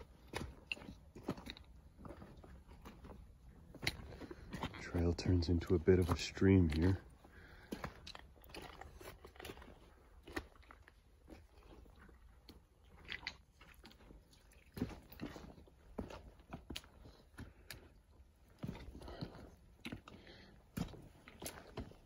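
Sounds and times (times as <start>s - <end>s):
footsteps crunching on trail: 0.0s - 22.0s
scuffs and knocks underfoot: 0.0s - 22.0s.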